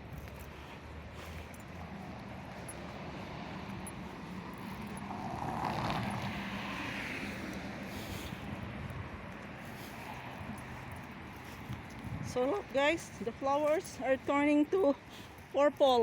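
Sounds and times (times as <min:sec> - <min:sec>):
car passing: 0:00.0 - 0:14.2.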